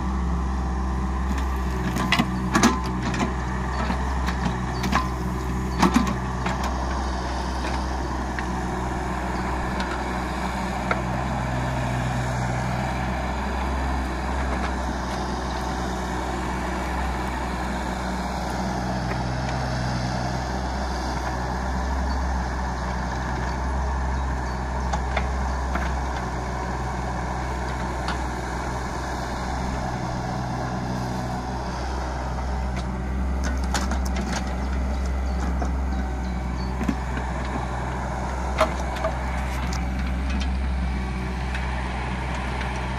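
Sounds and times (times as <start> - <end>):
excavator diesel engine running: 0.0 - 42.9
hydraulics working: 1.2 - 42.9.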